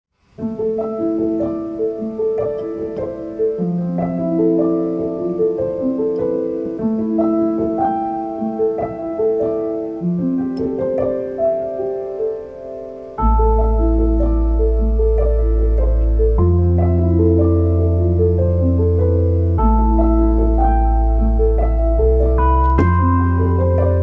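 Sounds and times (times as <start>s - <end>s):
gentle piano melody: 0.4s - 24.0s.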